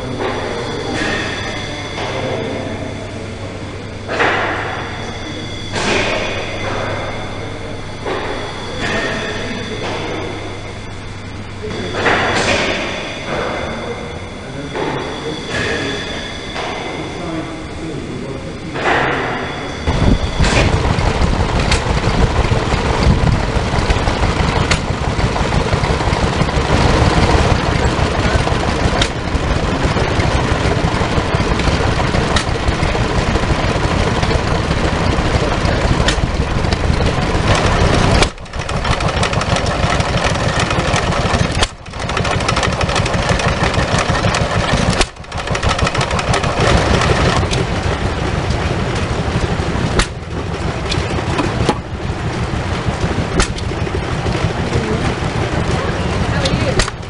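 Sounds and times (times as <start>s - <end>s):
small stationary engines running: 0.0s - 57.0s.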